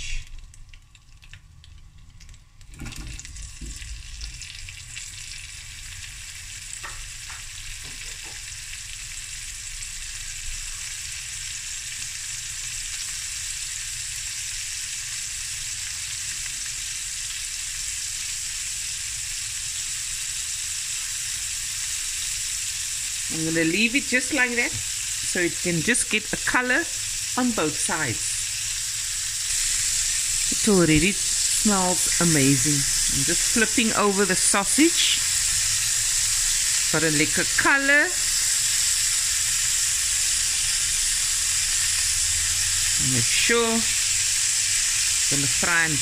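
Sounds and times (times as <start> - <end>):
sausage sizzling in a pan: 0.0 - 46.0.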